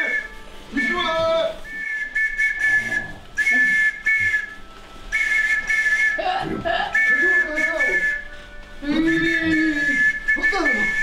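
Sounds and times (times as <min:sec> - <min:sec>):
whistle blasts: 0:00.0 - 0:11.0.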